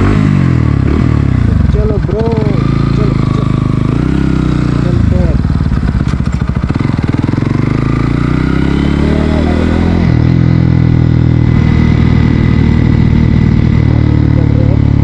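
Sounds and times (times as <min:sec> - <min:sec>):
motorbike engine accelerating: 0:00.0 - 0:15.0.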